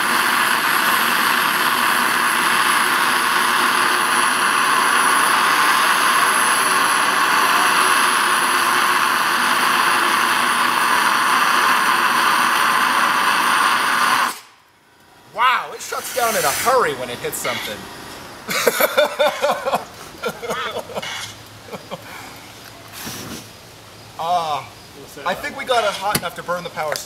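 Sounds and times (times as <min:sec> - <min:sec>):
jet engine loud rush: 0:00.0 - 0:14.6, 0:15.2 - 0:22.2
high thin whine: 0:00.0 - 0:27.0.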